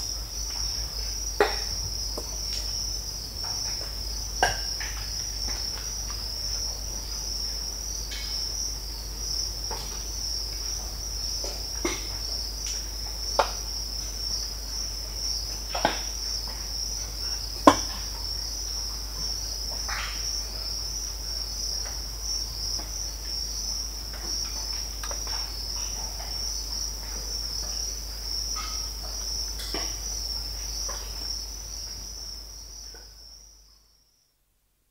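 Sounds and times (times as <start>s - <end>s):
cricket chorus: 0.0s - 34.4s.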